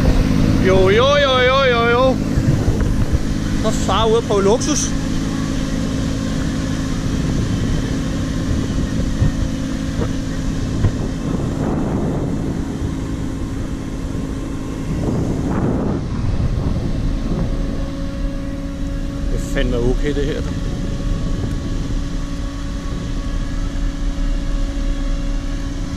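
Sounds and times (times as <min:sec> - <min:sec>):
low drone: 0:00.0 - 0:25.9
wind rushing over microphone: 0:00.0 - 0:25.9.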